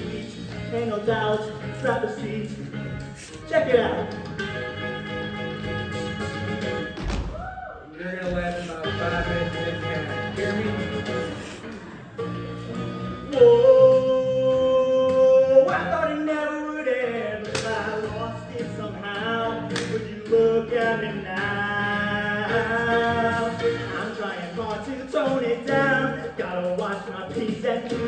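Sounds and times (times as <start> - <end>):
man singing: 0.0 - 4.3, 7.9 - 11.5, 13.2 - 28.0
backing track: 0.0 - 28.0.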